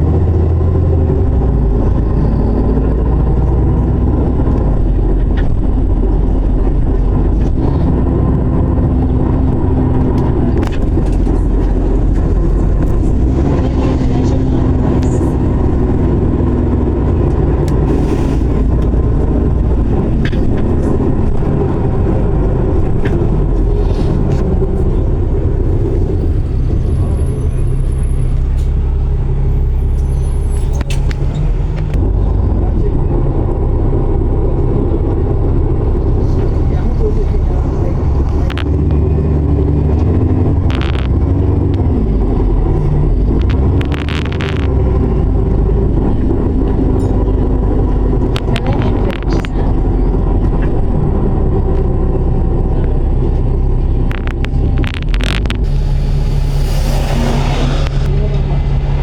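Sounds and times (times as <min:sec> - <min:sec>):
bus engine and road noise: 0:00.0 - 0:59.0.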